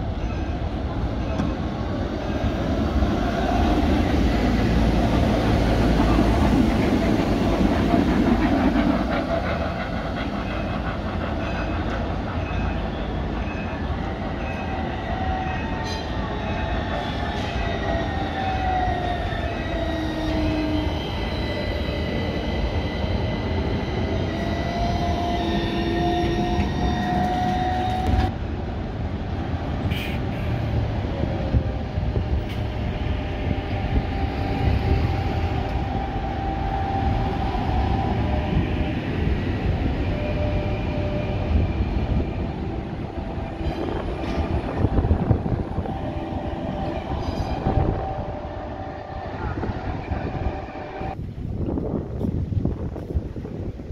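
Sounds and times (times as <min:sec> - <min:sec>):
tram wheels rumbling on rail: 0:00.0 - 0:53.9
tram motors whining: 0:00.4 - 0:28.4, 0:30.7 - 0:51.3.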